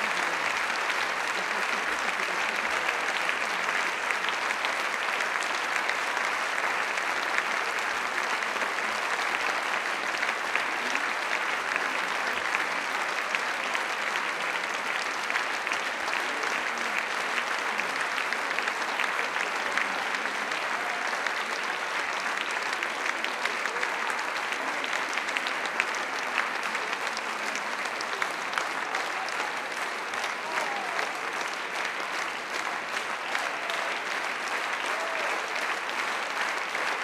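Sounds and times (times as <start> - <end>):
audience applauding: 0.0 - 37.0.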